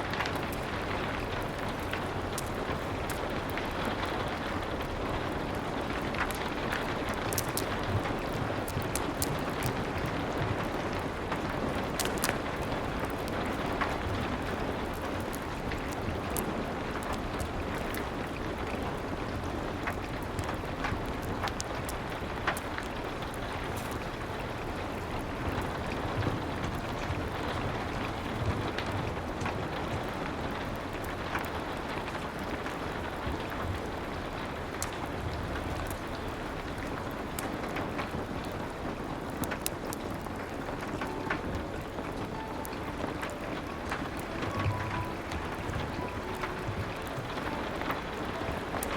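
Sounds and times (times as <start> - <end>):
steady rain: 0.0 - 48.9
wood fire crackling: 0.0 - 48.9.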